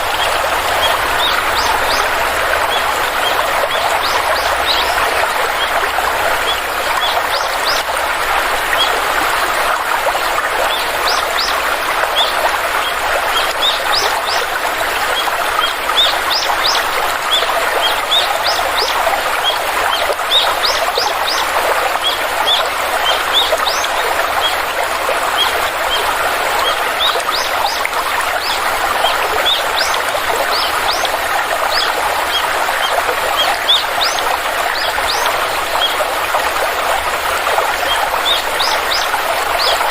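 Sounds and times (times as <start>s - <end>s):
small birds chirping: 0.0s - 5.8s, 10.7s - 24.6s, 25.3s - 36.0s, 37.7s - 39.9s
stream water rushing: 0.0s - 39.9s.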